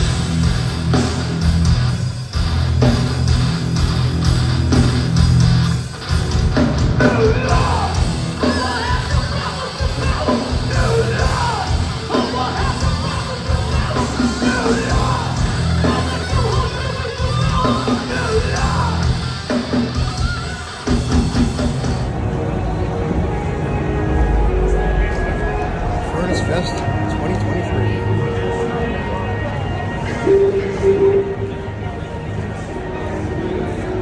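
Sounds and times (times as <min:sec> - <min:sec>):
metal band playing live: 0:00.0 - 0:33.8.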